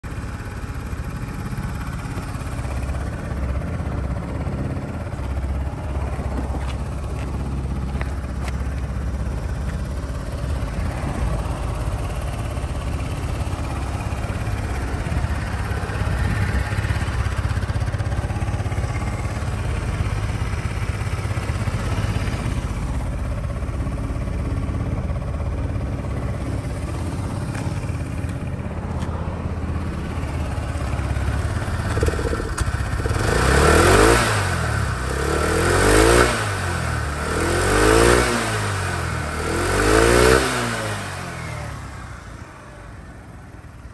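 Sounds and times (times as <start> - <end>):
scooter engine idling: 0.0 - 43.9
scooter engine revving: 0.1 - 42.8.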